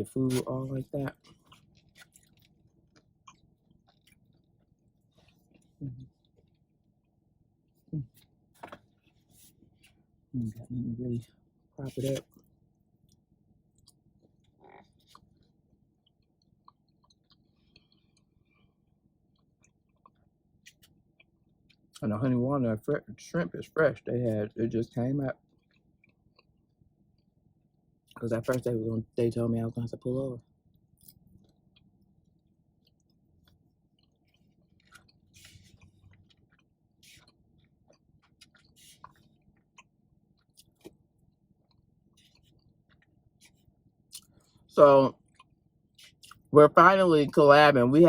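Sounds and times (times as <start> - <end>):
faint chewing: 0.0 - 22.0, 25.4 - 27.4, 30.6 - 46.5.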